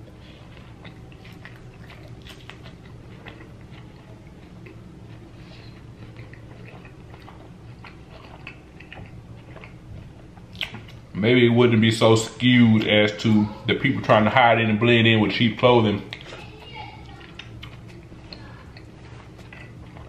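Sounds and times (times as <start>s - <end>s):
chewing crunchy food: 0.0s - 11.2s, 12.4s - 20.0s.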